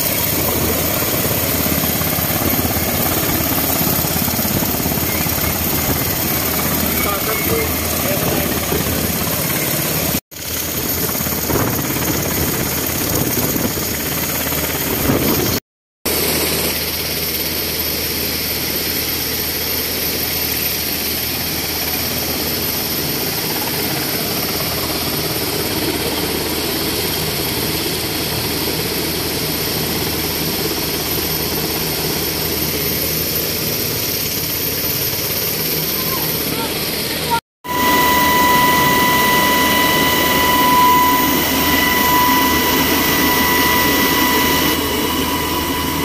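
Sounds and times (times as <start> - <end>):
helicopter rotor and turbine: 0.0 - 46.0.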